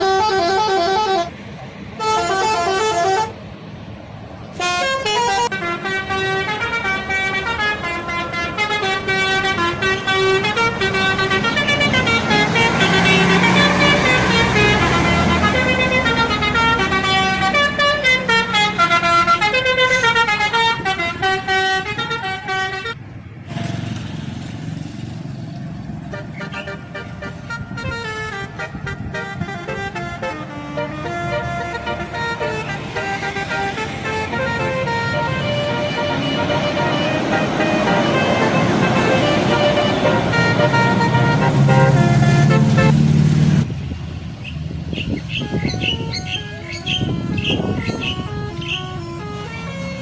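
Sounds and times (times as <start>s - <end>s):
multi-tone air horn tune: 0.0s - 1.4s, 2.0s - 3.4s, 4.5s - 23.0s, 26.1s - 43.0s, 45.4s - 50.0s
bus engine: 0.0s - 50.0s.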